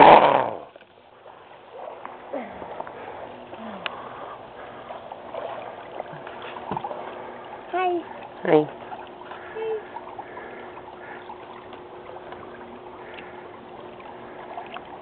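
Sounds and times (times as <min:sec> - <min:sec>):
pool water lapping and sloshing: 0:00.0 - 0:15.0.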